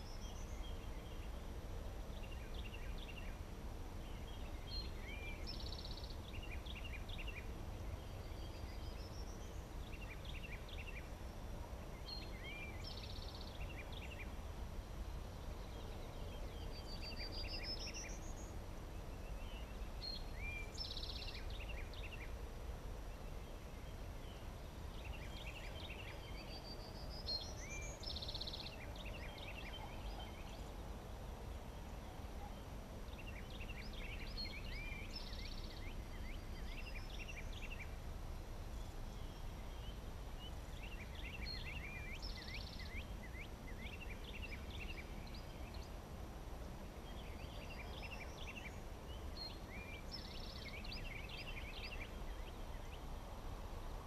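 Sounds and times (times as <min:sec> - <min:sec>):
bird song with trill and whistle: 0:00.0 - 0:22.5, 0:23.1 - 0:38.0, 0:38.6 - 0:46.1, 0:46.8 - 0:53.2
low wind rumble: 0:00.0 - 0:54.0.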